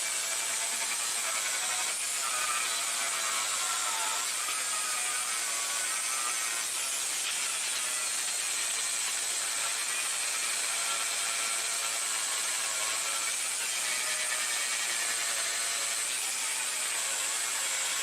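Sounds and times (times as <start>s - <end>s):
power grinder on steel: 0.0s - 18.0s.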